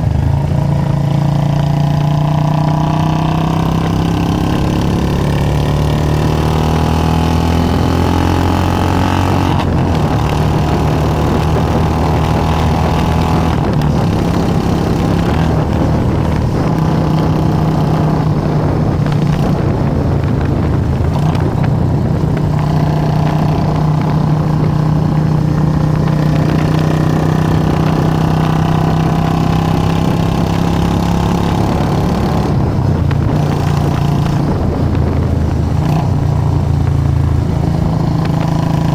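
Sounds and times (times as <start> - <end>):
motorcycle engine deep exhaust: 0.0 - 38.9.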